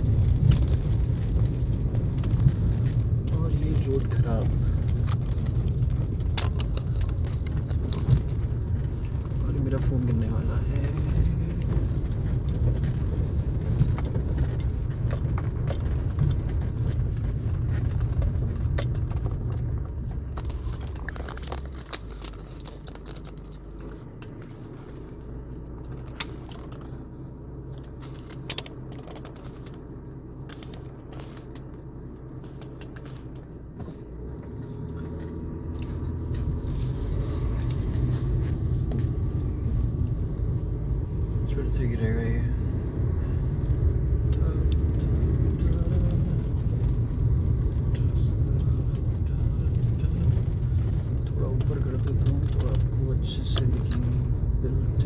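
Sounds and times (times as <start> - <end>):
car rumbling on dirt road: 0.0 - 55.0
loose things rattling in car: 0.0 - 55.0.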